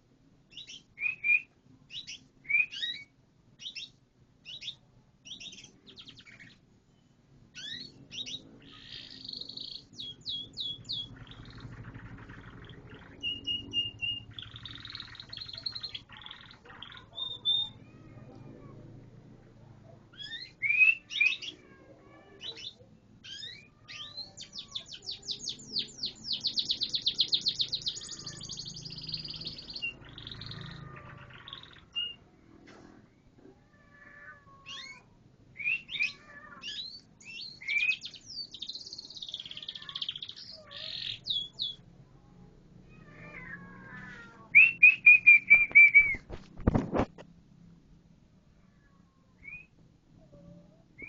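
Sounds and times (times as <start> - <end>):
canary singing: 0.5 - 19.0, 20.1 - 32.3, 33.8 - 42.1, 42.8 - 46.4, 49.3 - 49.8.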